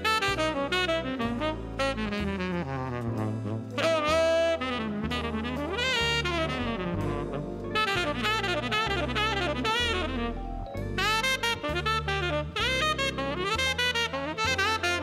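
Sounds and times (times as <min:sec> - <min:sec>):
bass line: 0:00.0 - 0:15.0
tenor saxophone solo: 0:00.0 - 0:15.0.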